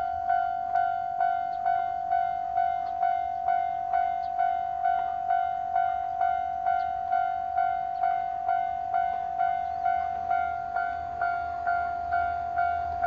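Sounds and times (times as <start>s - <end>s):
level-crossing alarm bell: 0.0s - 13.0s.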